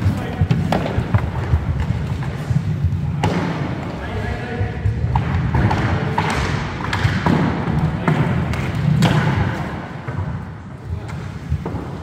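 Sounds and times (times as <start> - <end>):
hockey sticks striking ball: 0.0 - 4.0, 4.7 - 12.0.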